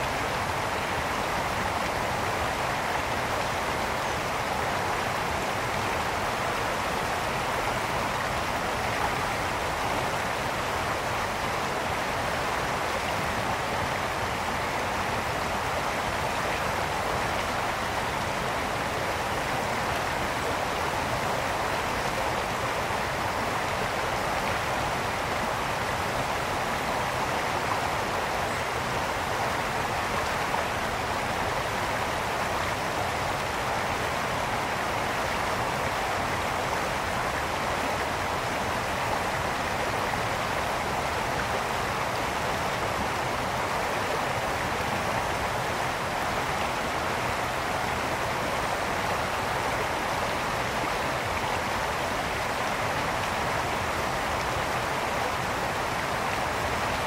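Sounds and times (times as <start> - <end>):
brook flowing over stones: 0.0 - 57.0.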